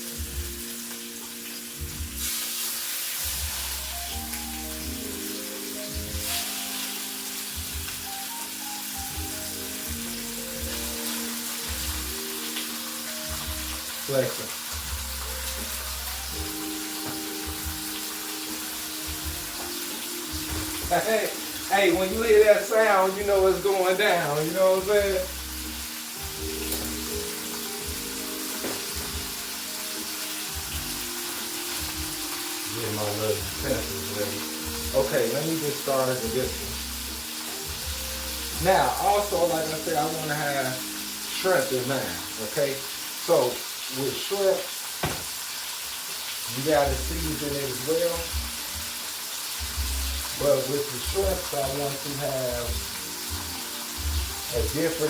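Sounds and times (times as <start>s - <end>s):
chicken sizzling in a pan: 0.0s - 55.0s.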